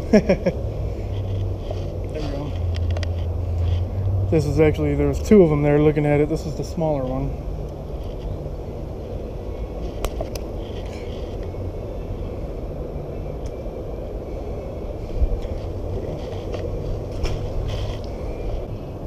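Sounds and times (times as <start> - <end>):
low city rumble: 0.0 - 19.0.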